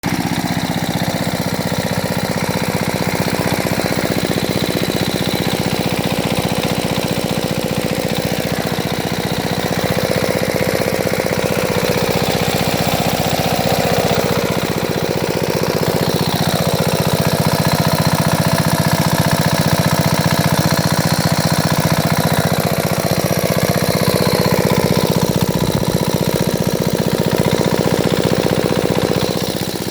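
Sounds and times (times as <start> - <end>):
small engine chugging: 0.0 - 29.9.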